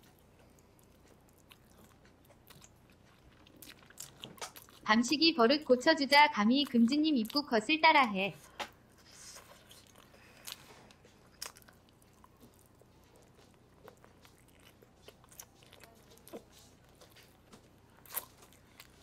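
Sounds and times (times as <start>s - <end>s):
faint chewing and biting: 0.0s - 5.2s, 8.4s - 19.0s.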